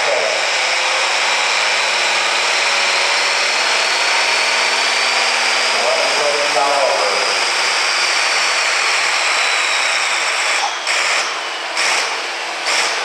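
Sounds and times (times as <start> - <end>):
tractor diesel engine running hard: 0.0 - 13.0.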